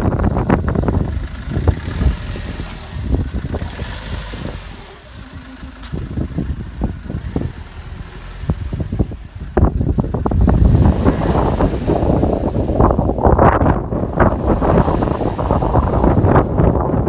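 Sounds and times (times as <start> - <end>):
van engine idling: 0.0 - 17.0
wind buffeting microphone: 0.0 - 17.0.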